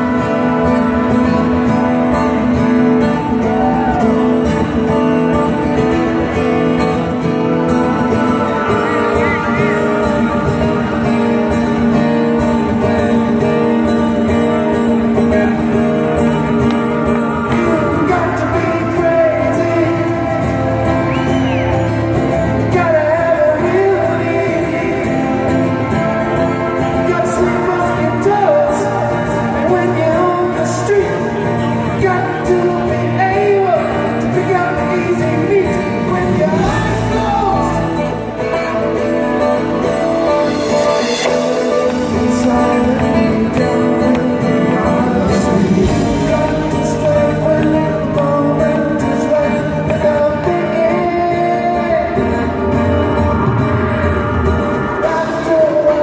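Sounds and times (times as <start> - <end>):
acoustic guitar strumming: 0.0 - 56.0
bass guitar: 0.0 - 56.0
man singing: 0.0 - 56.0.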